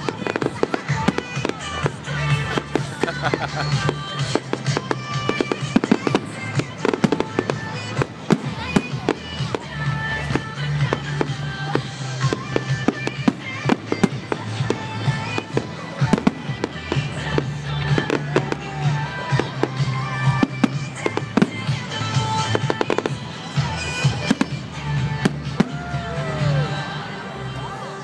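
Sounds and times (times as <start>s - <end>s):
fireworks cracking and popping: 0.0s - 26.6s
music: 0.0s - 28.0s.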